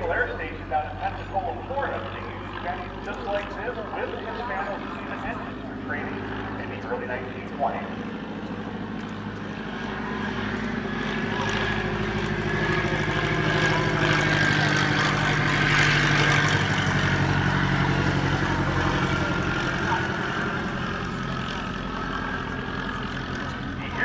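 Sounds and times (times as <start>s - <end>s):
biplane engine droning overhead: 0.0s - 24.0s.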